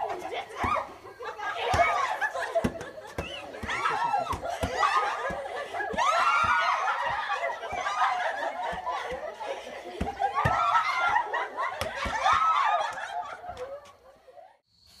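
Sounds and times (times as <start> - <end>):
women laughing and calling out: 0.0 - 14.6.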